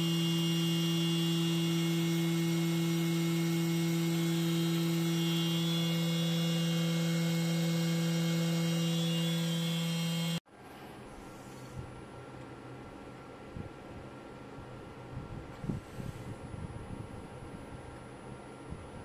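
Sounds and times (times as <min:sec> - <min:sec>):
milling spindle hum and whine: 0:00.0 - 0:19.0.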